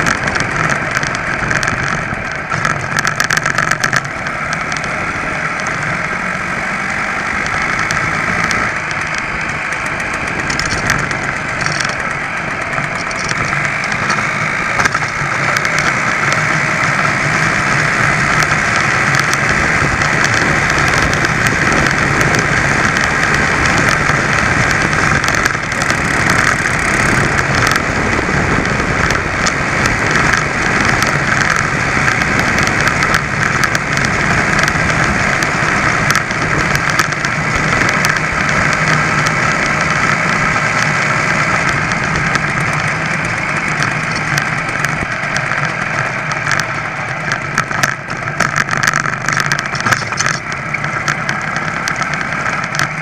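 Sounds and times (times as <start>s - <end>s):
moped engine running: 0.0s - 53.0s.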